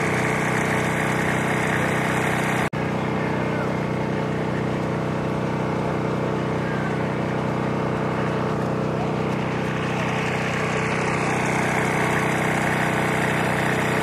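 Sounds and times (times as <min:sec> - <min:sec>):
small engine droning: 0:00.0 - 0:14.0.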